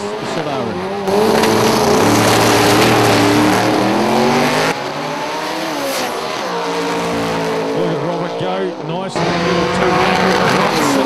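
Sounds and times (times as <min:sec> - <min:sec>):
loud tyre noise: 0:00.0 - 0:11.0
racing car engines revving: 0:00.0 - 0:11.0.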